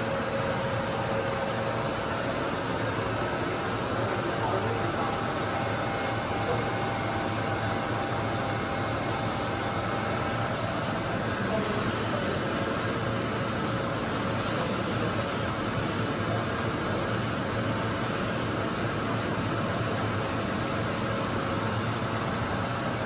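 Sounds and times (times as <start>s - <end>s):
milling machine humming: 0.0s - 23.0s.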